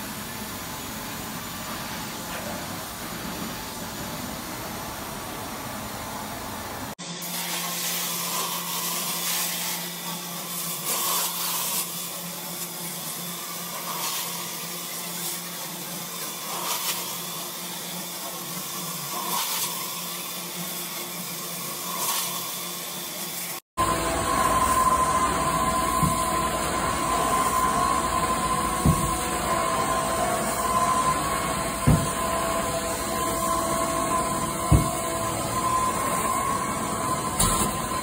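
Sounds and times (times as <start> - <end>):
carpet extraction vacuum suction: 7.3 - 38.0.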